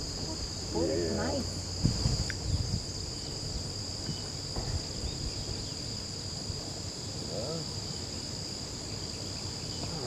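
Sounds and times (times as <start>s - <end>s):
insect chorus: 0.0s - 10.0s.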